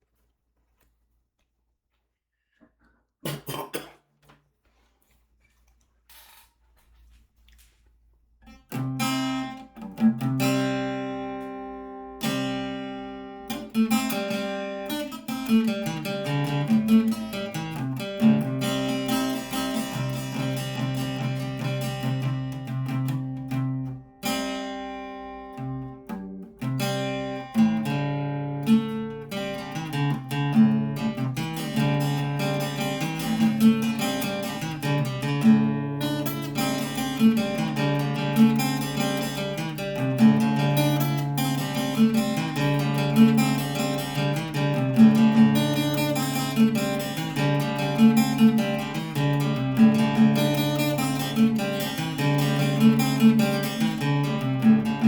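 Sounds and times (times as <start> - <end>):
acoustic guitar strumming: 8.5 - 55.0.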